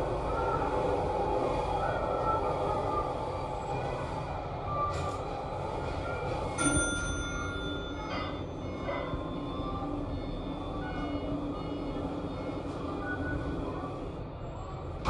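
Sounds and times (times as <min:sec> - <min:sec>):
low rumble of subway station: 0:00.0 - 0:15.0.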